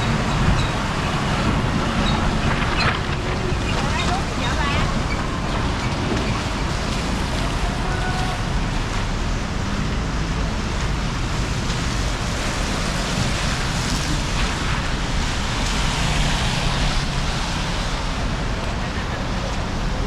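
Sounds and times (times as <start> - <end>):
rain: 0.0 - 20.0
traffic on wet roads: 0.0 - 20.0.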